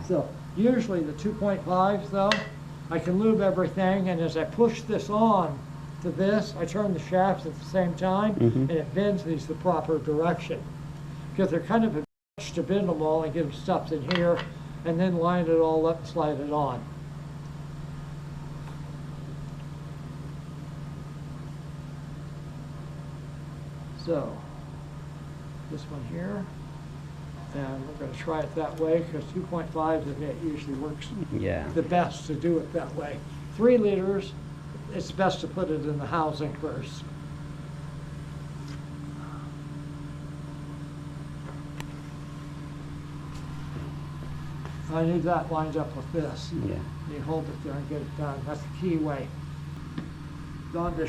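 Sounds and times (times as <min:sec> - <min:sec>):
machinery hum: 0:00.0 - 0:51.0.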